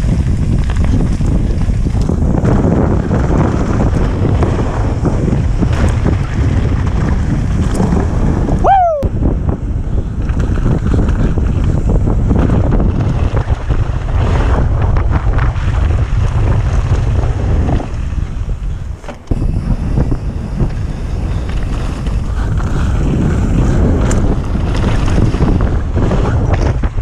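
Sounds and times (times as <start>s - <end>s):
bike tyres rattling on dirt trail: 0.0s - 27.0s
wind buffeting microphone: 0.0s - 27.0s.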